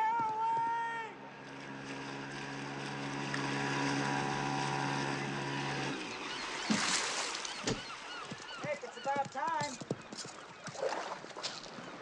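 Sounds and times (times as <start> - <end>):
outboard motor running: 0.0 - 11.2.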